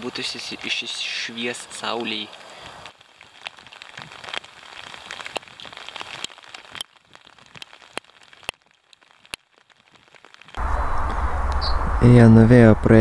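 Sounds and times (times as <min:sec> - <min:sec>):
raindrops ticking near microphone: 0:00.0 - 0:12.0
rain falling: 0:00.0 - 0:13.0.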